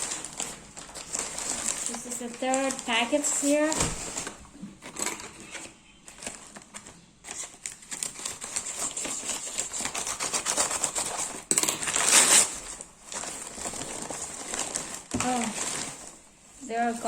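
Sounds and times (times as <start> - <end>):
plastic packaging crinkling: 0.0 - 17.0
plastic packaging ripping: 0.0 - 17.0.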